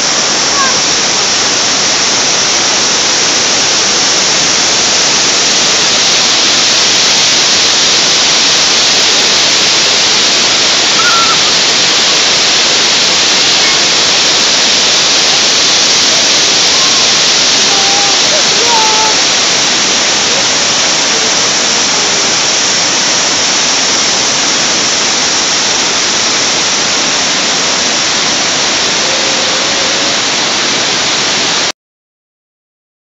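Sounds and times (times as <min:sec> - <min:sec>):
fountain water splashing: 0:00.0 - 0:31.7.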